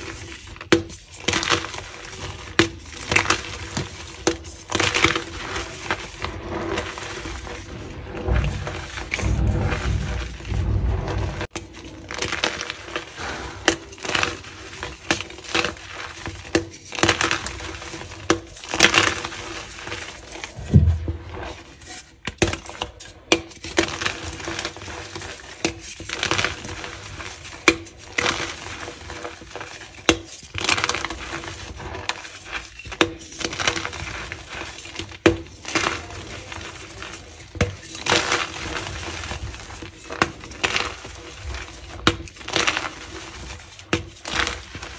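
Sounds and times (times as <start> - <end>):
dry chalk crunches: 0.0 - 44.9.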